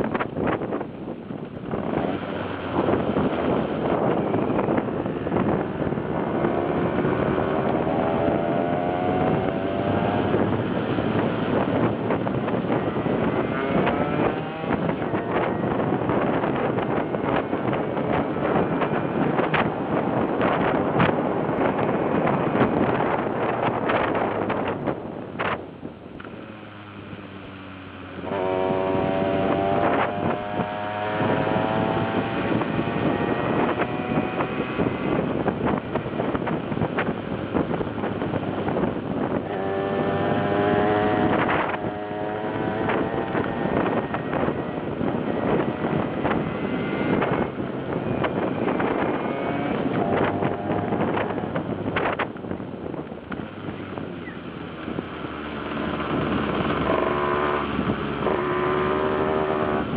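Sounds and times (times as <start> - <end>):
wind buffeting microphone: 0.0 - 59.9
moped engine revving: 1.8 - 24.8, 26.9 - 53.8, 55.0 - 59.9.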